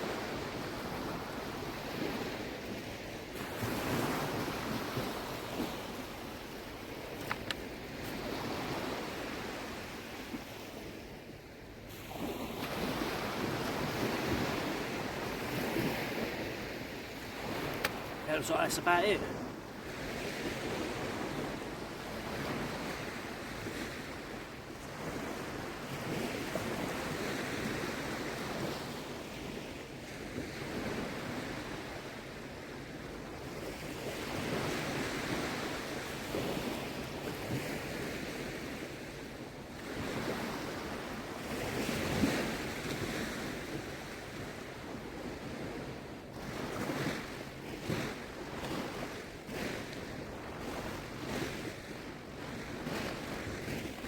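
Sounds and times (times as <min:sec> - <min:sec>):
small waves washing on shore: 0:00.0 - 0:54.0.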